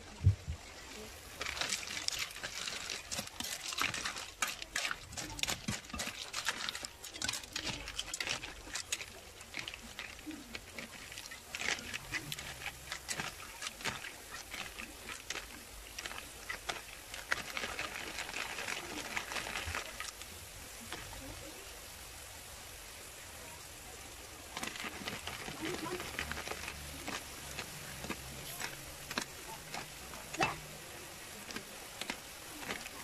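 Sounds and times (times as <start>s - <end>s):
simmering pot hissing: 0.0s - 33.0s
snail shells clattering in a wok: 1.3s - 20.3s, 24.6s - 33.0s.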